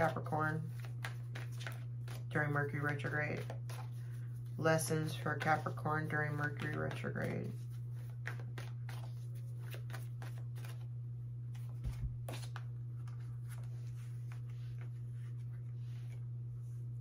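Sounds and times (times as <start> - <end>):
cards being shuffled: 0.0 - 16.3
steady low hum: 0.0 - 17.0.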